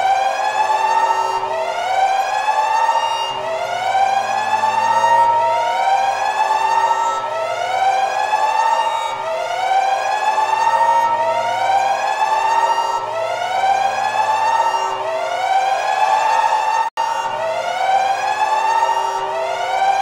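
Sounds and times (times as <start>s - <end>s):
electronic siren wail: 0.0s - 20.0s.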